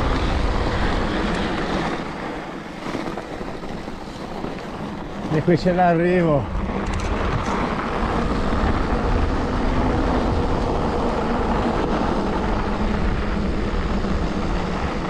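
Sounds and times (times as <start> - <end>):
bicycle tyres rolling over snow: 0.0 - 15.0
wind on microphone: 0.0 - 15.0.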